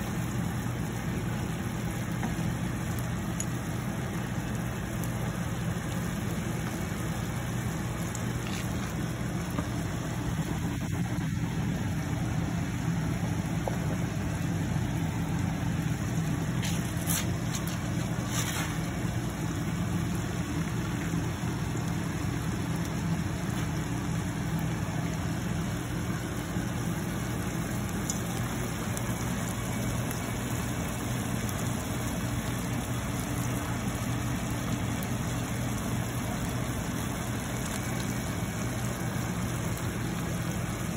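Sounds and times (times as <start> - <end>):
low motor hum: 0.0 - 40.9
shrimp simmering in broth: 0.0 - 40.9.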